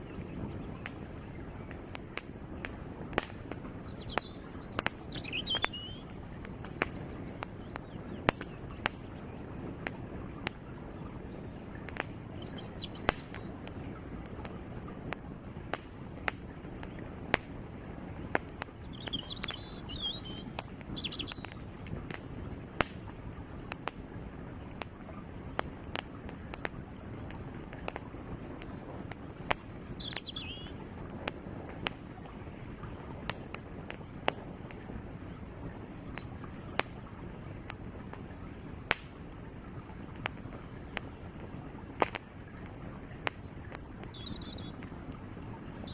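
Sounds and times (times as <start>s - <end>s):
birds chirping: 0.0s - 23.6s, 26.8s - 38.7s, 39.5s - 45.9s
campfire crackling and popping: 0.0s - 45.9s
creek flowing: 0.0s - 45.9s.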